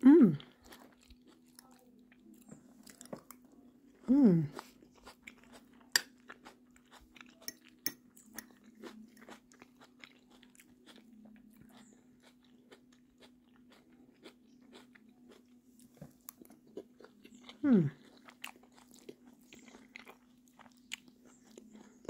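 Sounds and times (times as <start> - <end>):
crunchy chewing: 0.4 - 22.0.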